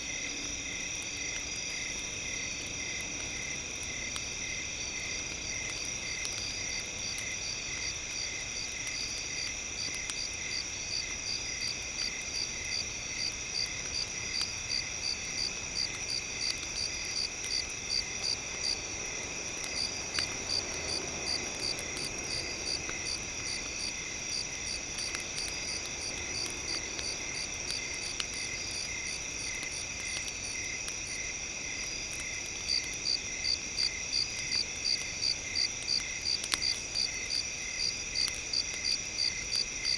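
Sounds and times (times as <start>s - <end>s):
crickets chirping: 0.0s - 39.9s
faint crackle: 0.0s - 39.9s.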